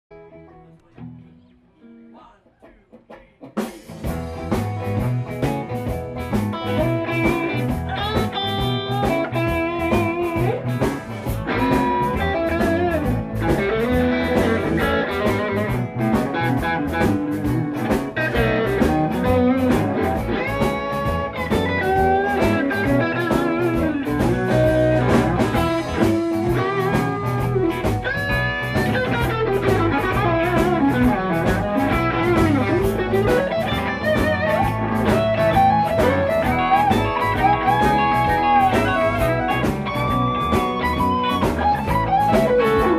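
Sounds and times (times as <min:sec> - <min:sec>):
bent electric guitar lead notes: 0:02.8 - 0:42.9
live rock band playing: 0:02.9 - 0:42.9.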